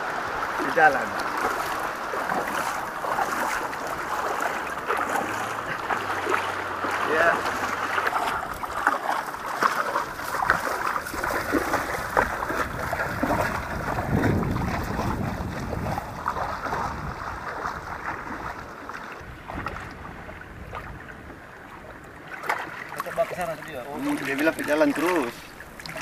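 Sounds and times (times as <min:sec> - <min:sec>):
wind on microphone: 0:00.0 - 0:22.3
water sloshing and splashing: 0:00.0 - 0:26.0.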